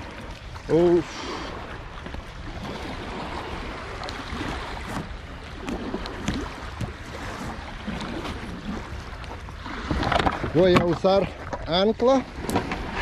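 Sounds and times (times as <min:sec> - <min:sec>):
water lapping and splashing: 0:00.0 - 0:13.0
wind on microphone: 0:00.0 - 0:13.0.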